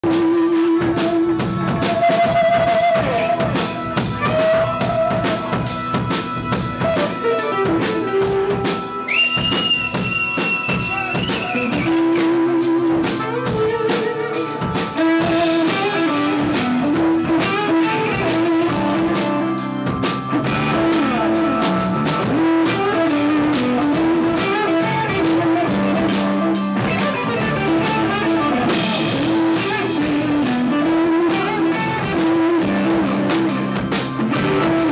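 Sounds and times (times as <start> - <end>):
drum kit beat: 0.0 - 34.9
guitar: 0.0 - 34.9.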